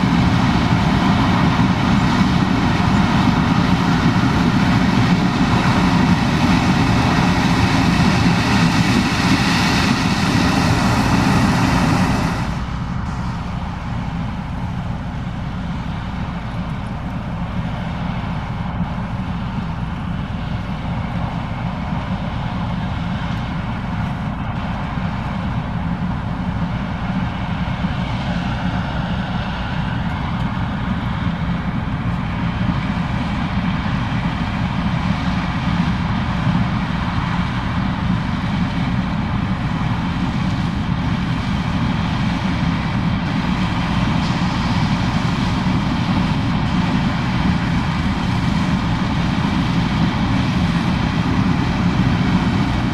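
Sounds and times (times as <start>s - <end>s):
combine harvester engine drone: 0.0s - 52.9s.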